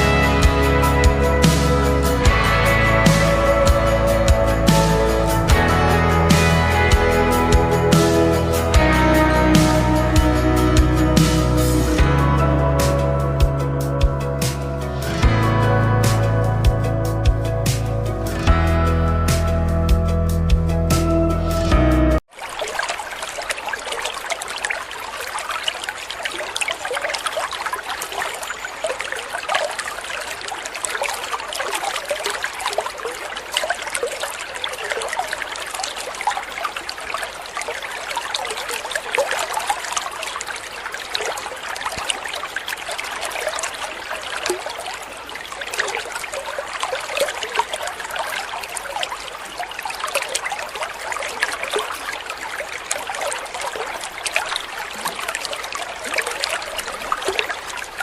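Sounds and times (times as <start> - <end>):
water trickling: 0.0 - 18.7, 21.7 - 58.0.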